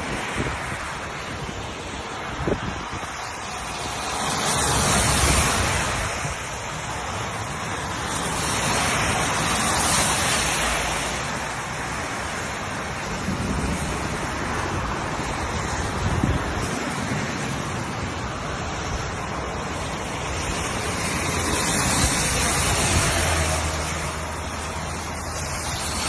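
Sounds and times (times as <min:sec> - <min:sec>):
heavy rain pouring: 0:00.0 - 0:26.0
wind gusts on microphone: 0:00.0 - 0:26.0.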